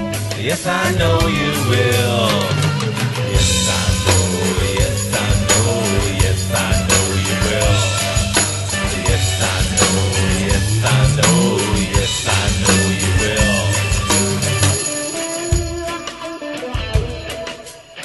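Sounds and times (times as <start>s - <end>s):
background music with beat and bass: 0.0s - 18.0s.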